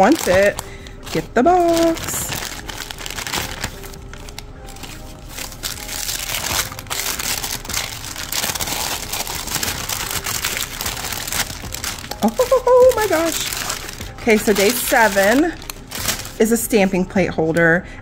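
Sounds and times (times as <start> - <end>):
tissue paper rustling: 0.0 - 17.0.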